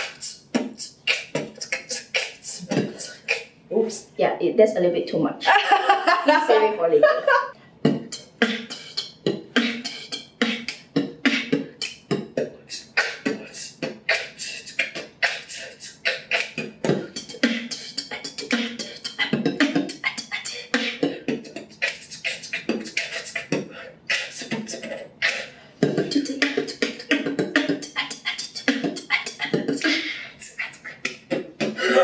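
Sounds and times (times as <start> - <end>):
beatboxing: 0.0 - 4.0, 7.8 - 32.0.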